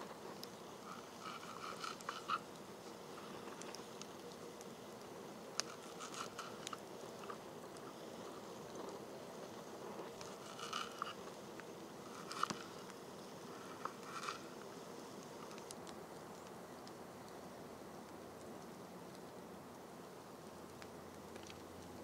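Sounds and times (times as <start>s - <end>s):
low steady hiss: 0.0s - 22.0s.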